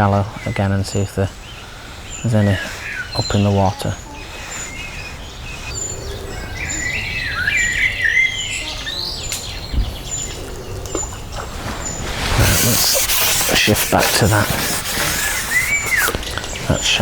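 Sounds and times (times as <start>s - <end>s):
birds warbling and chirping: 0.0s - 17.0s.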